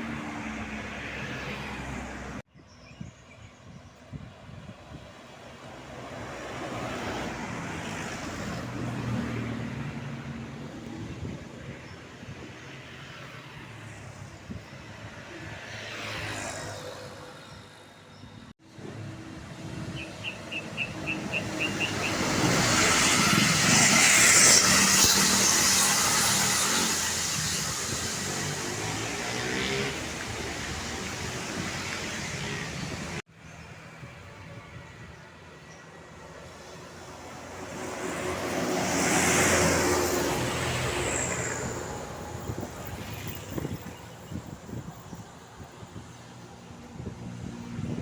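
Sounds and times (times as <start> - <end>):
bus passing: 0.0 - 2.5, 4.2 - 48.0.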